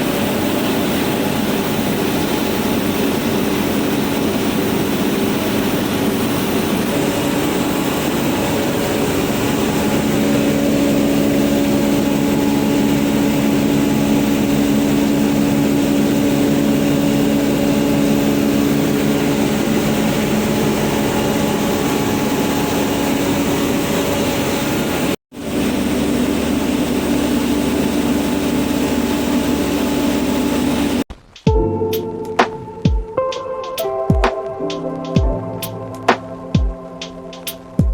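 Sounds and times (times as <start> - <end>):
rice milling machine drone: 0.0 - 32.8.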